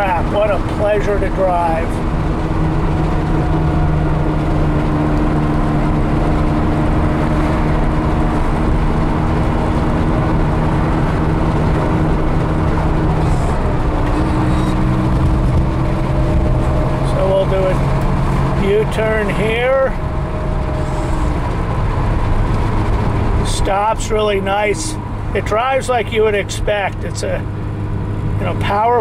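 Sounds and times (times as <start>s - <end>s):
car engine running: 0.0s - 29.0s
road rumble: 0.0s - 29.0s.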